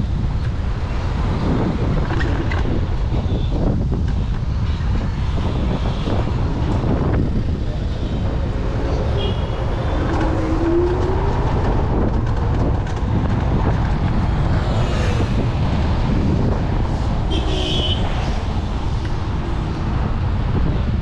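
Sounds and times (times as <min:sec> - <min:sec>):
scooter road noise: 0:00.0 - 0:21.0
wind rushing over microphone: 0:00.0 - 0:21.0.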